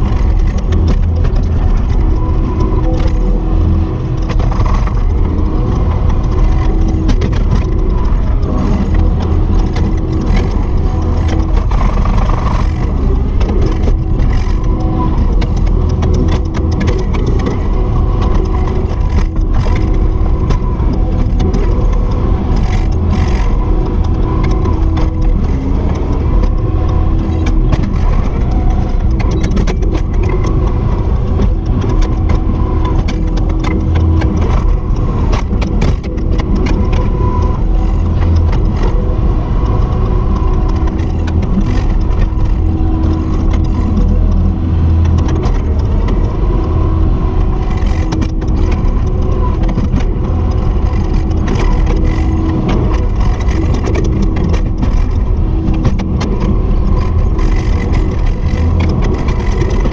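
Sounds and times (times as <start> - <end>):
track loader diesel engine running: 0.0 - 59.9.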